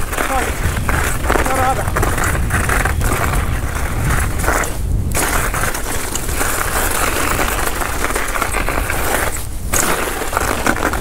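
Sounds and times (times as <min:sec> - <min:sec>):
bike tyres rattling on icy ground: 0:00.0 - 0:11.0
low rumble: 0:00.1 - 0:09.2.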